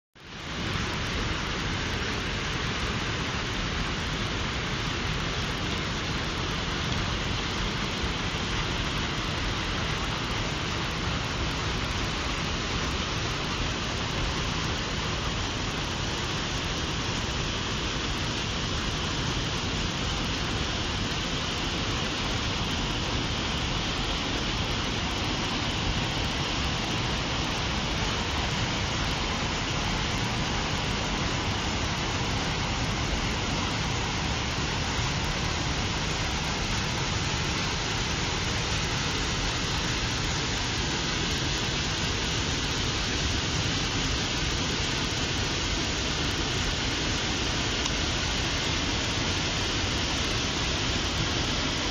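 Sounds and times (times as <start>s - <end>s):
water rushing through rapids: 0.2s - 51.9s.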